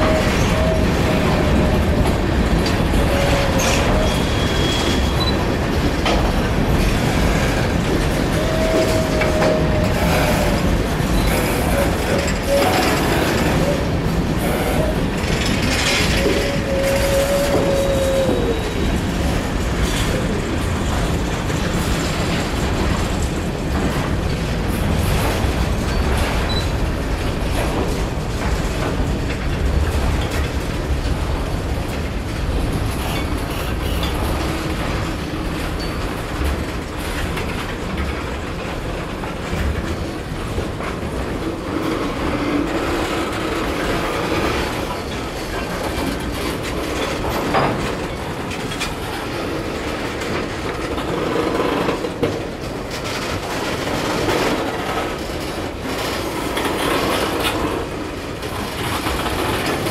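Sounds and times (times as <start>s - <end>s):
freight train rumbling past: 0.0s - 59.9s
train wheels clicking over rail joints: 0.0s - 59.9s.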